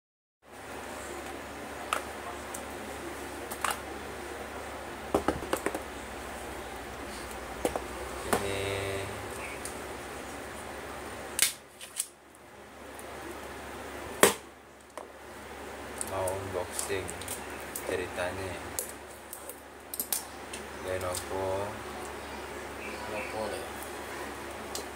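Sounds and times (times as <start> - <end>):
steady low hum: 0.5 - 24.9.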